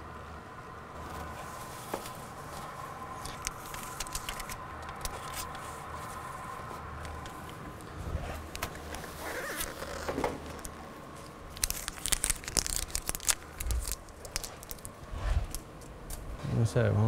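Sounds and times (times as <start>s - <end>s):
machine hum with thin tone: 0.0s - 17.0s.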